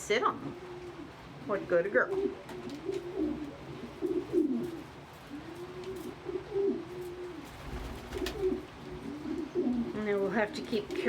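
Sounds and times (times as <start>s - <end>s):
pigeons cooing: 0.3s - 11.0s.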